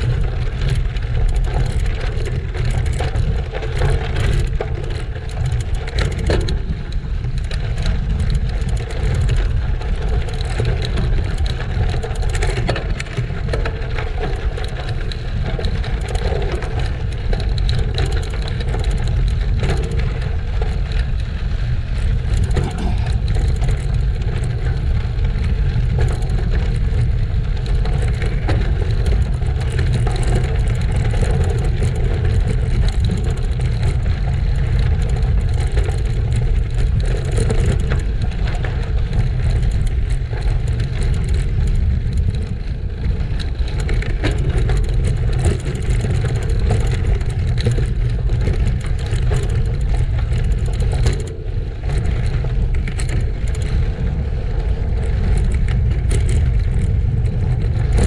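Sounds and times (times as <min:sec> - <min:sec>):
tyres rolling on gravel: 0:00.0 - 0:58.0
wind buffeting microphone: 0:00.0 - 0:58.0.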